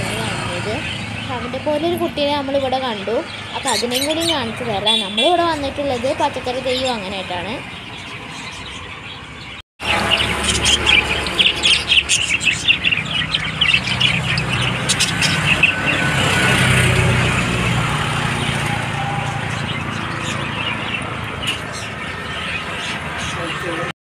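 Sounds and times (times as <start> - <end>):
birds chirping and chattering: 0.0 - 23.9.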